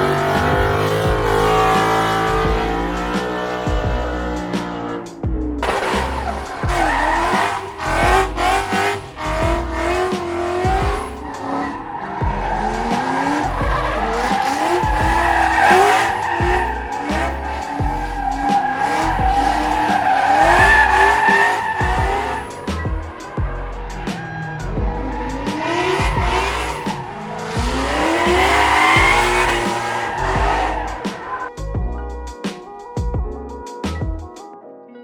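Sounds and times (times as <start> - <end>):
car tyres squealing: 0.0 - 31.6
background music with bass beat: 0.0 - 34.5.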